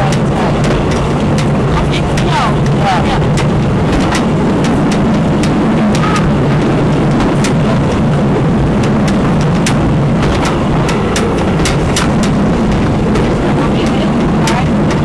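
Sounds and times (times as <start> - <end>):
train rumbling on track: 0.0 - 15.0
wheel clicks over rail joints: 0.0 - 15.0.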